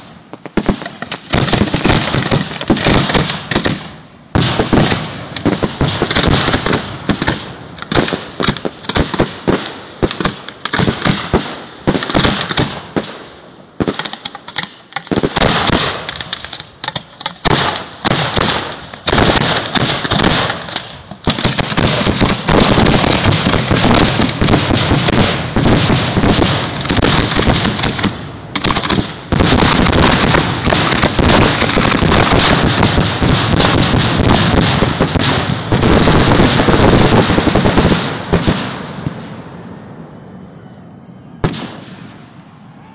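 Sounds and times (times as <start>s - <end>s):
firework shells bursting: 0.0s - 13.1s, 13.8s - 39.3s.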